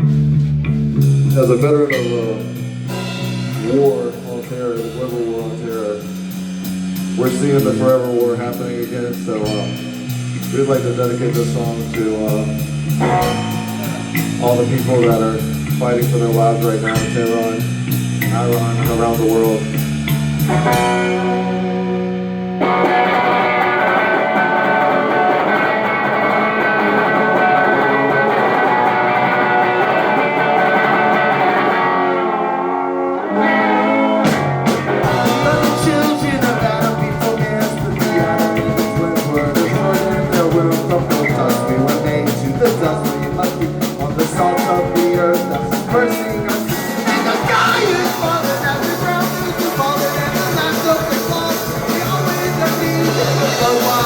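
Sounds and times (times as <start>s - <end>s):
bass guitar: 0.0s - 54.0s
drums: 0.0s - 54.0s
electric guitar ringing chords: 4.9s - 54.0s.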